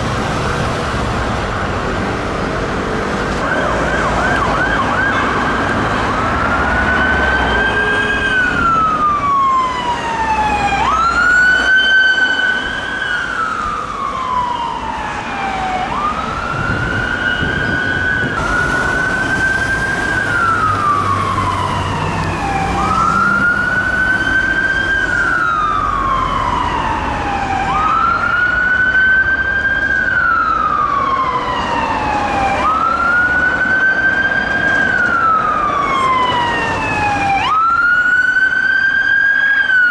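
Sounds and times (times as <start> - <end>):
road traffic rumble: 0.0 - 39.9
ambulance siren wailing: 3.3 - 39.9.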